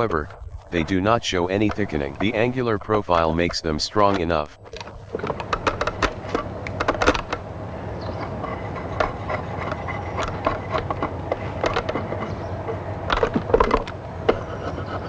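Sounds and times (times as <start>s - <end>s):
drawknife scraping wood: 0.0s - 15.0s
steady low hum: 0.0s - 15.0s.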